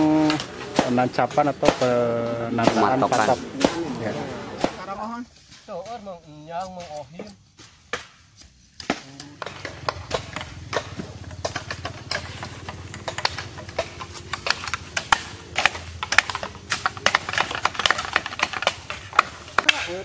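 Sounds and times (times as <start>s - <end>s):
hand tools chopping ground: 0.0s - 20.0s.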